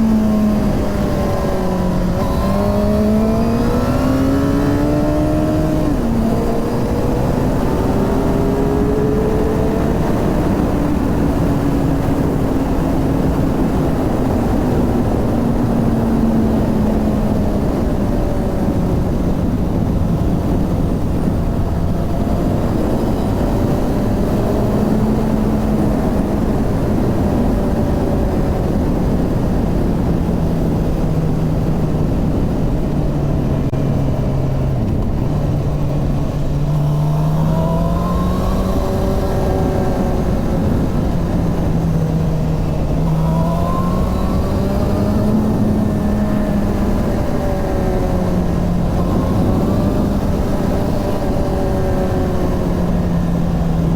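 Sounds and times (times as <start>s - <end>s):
constant noisy rush: 0.0s - 53.9s
motorcycle engine running: 0.0s - 53.9s.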